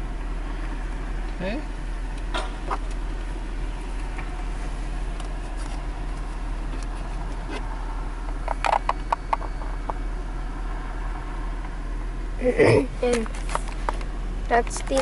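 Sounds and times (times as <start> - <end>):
car engine idling inside cabin: 0.0 - 15.0.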